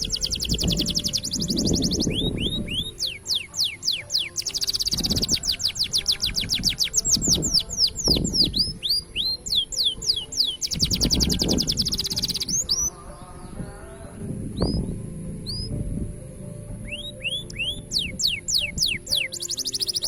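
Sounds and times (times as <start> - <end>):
canary singing trills: 0.0 - 15.9, 16.6 - 20.0.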